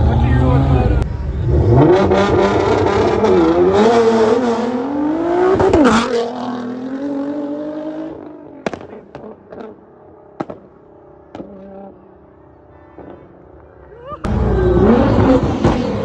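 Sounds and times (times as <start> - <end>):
car engine revving: 0.0 - 12.3, 14.3 - 16.0.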